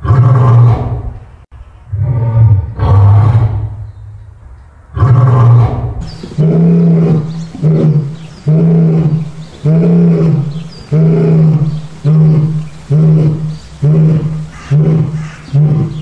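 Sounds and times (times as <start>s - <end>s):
lions roaring: 0.0s - 1.2s, 1.9s - 16.0s.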